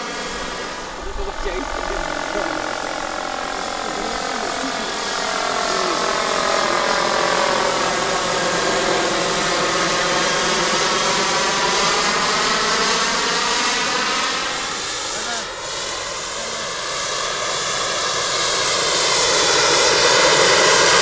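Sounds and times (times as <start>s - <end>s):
model helicopter flying past: 0.0s - 21.0s.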